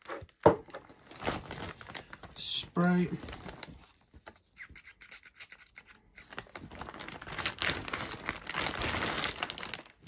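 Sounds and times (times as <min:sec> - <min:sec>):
plastic bag rustling: 0:00.0 - 0:04.5, 0:06.2 - 0:10.0.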